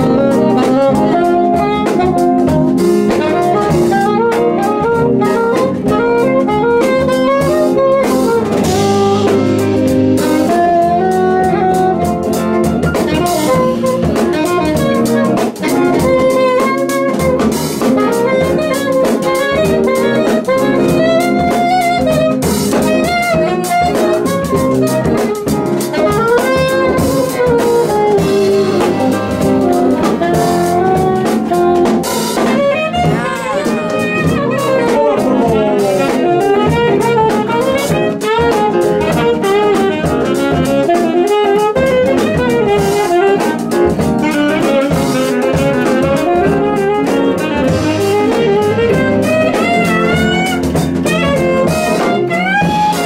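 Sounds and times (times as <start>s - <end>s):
drum kit: 0.0s - 53.0s
electric bass: 0.0s - 53.0s
electric guitar: 0.0s - 53.0s
saxophone melody: 0.0s - 53.0s.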